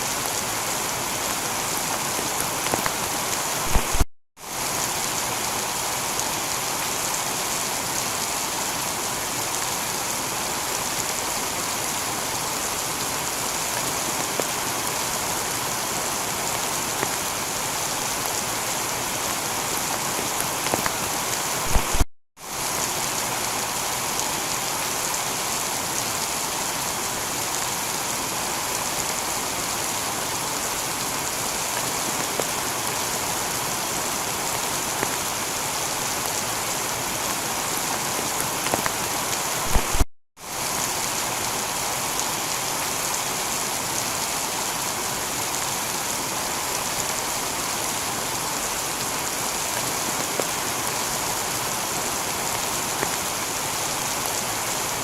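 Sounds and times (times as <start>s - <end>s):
heavy rain on a tiled roof: 0.0s - 55.0s.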